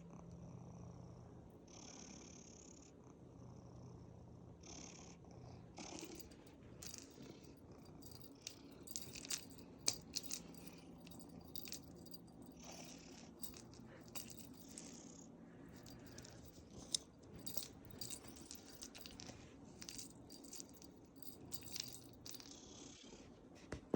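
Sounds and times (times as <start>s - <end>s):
cat purring: 0.0s - 23.4s.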